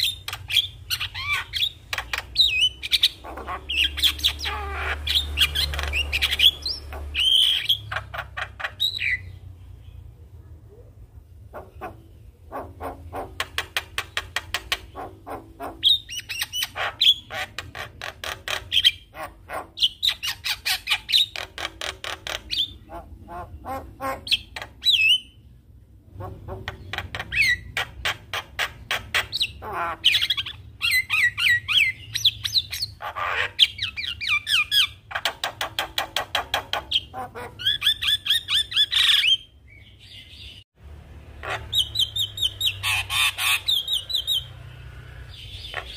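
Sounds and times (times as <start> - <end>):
myna bird singing: 0.0 - 45.9.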